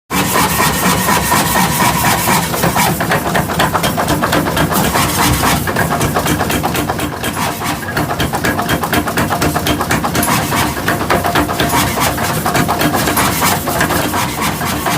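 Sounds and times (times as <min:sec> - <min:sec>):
shop machinery knocking rapidly: 0:00.1 - 0:14.9.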